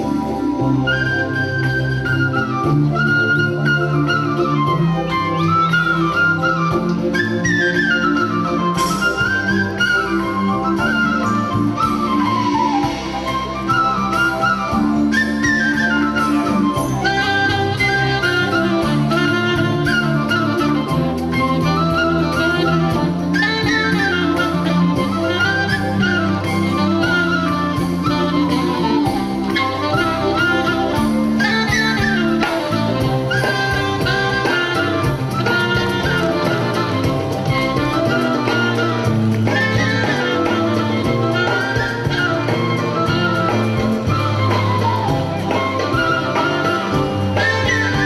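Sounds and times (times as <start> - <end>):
jazzy band with horns: 0.0 - 48.0.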